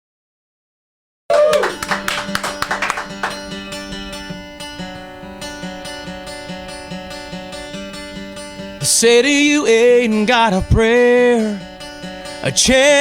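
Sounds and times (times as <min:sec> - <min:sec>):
acoustic guitar strumming: 0:01.5 - 0:13.0.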